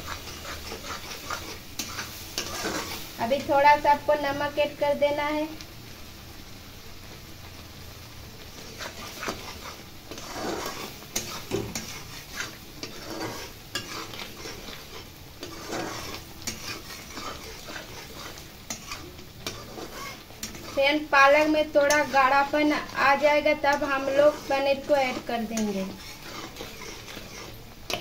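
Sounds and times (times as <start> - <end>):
metal spatula scraping pan: 0.0 - 3.6, 8.6 - 28.0
faint sizzle of cooking puree: 0.0 - 28.0.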